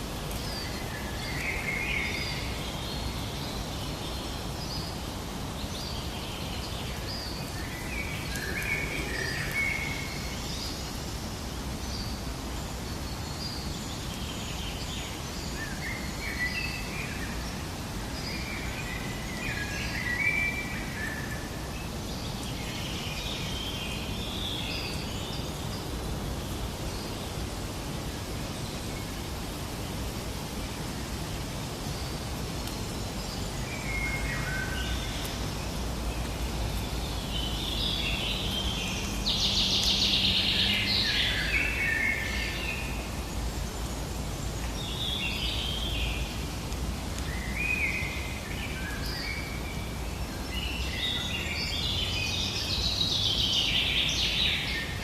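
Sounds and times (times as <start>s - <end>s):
outdoor ambience hiss: 0.0s - 55.0s
wild birds chirping and singing: 0.0s - 55.0s.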